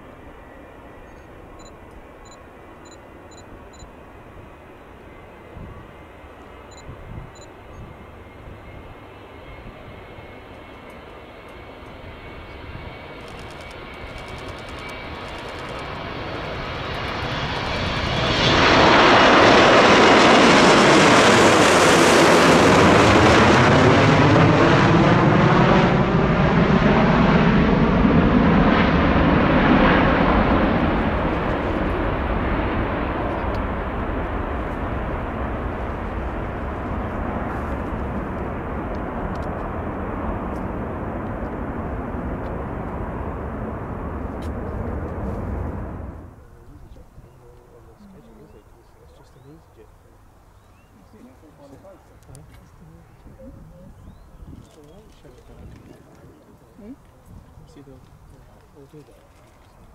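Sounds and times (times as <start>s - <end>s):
jet engines at takeoff: 0.0s - 59.9s.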